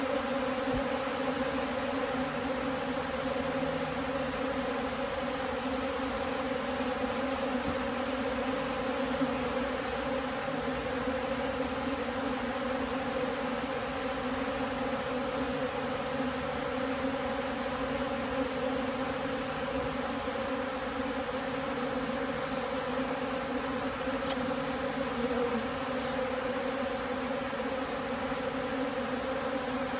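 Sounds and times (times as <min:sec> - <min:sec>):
honeybee colony humming: 0:00.0 - 0:29.9.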